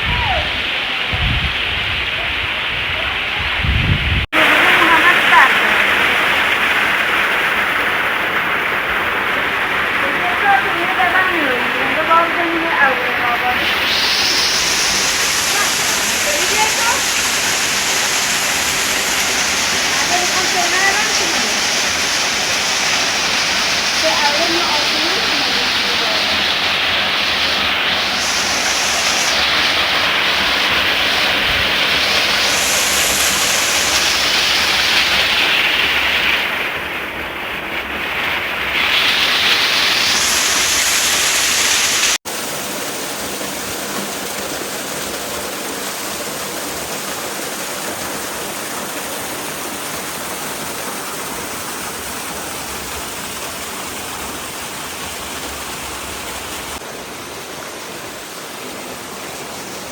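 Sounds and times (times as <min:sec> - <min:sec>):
waterfall rushing: 0:00.0 - 0:03.6, 0:04.3 - 0:59.9.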